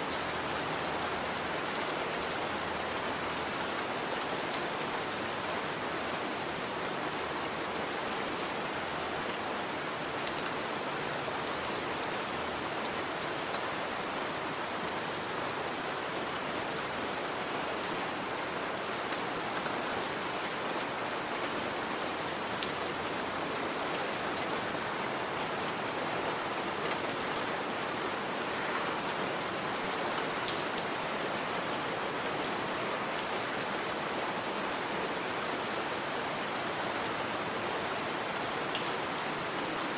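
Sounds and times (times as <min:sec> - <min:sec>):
raindrops dripping and splashing: 0:00.0 - 0:39.9.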